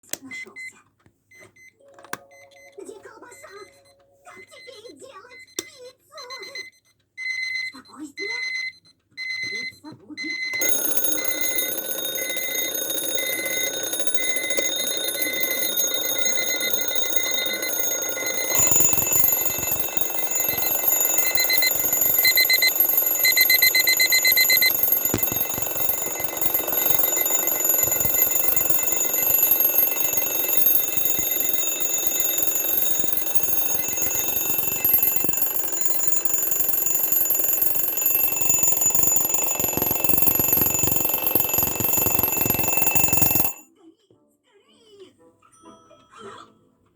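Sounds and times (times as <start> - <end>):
alarm clock beeping: 1.4 - 43.7
alarm clock ringing: 2.1 - 6.7, 10.3 - 43.6.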